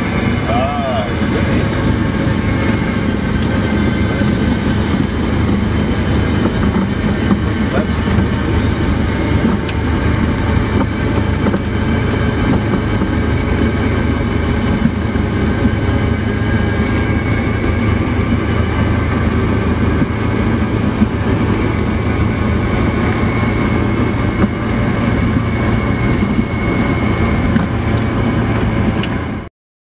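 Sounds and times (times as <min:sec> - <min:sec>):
light plane engine drone in cabin: 0:00.0 - 0:29.5.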